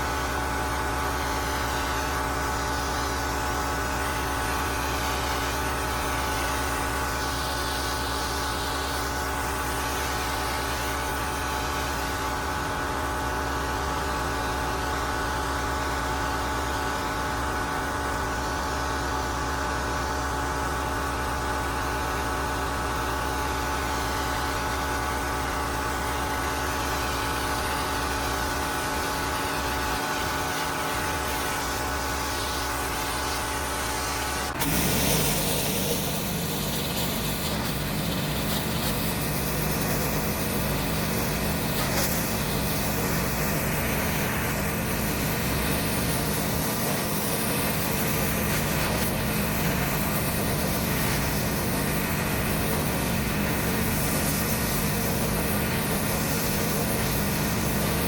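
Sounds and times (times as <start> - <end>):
pressure washer running: 0.0 - 58.0.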